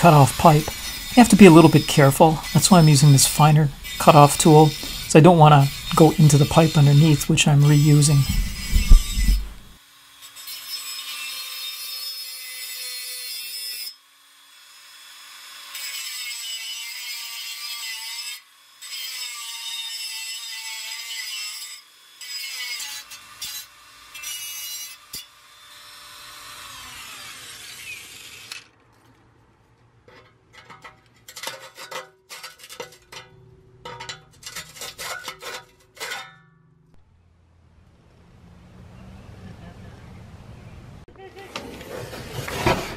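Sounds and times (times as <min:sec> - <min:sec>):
cutoff wheel grinding steel pipe: 0:00.0 - 0:14.0, 0:15.6 - 0:37.0.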